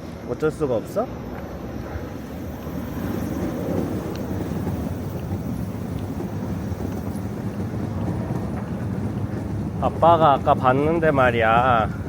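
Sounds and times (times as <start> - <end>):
wind buffeting microphone: 1.2 - 12.0.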